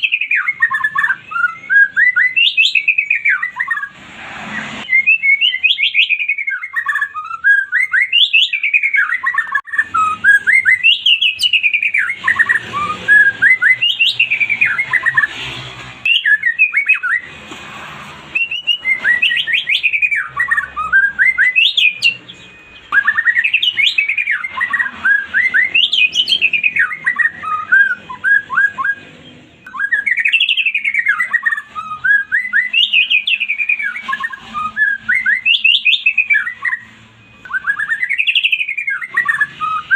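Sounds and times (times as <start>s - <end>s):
bird singing whistled notes: 0.0s - 15.4s, 16.0s - 17.4s, 18.3s - 39.9s.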